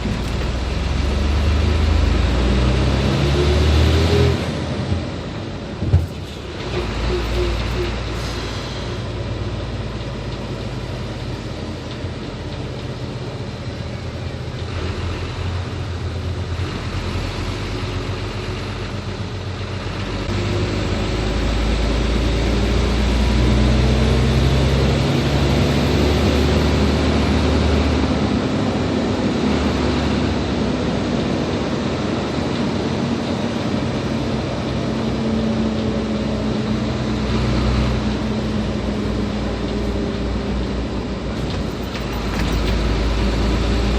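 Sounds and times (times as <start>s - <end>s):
tyre and road noise: 0.0s - 43.9s
truck diesel engine running: 4.6s - 43.9s.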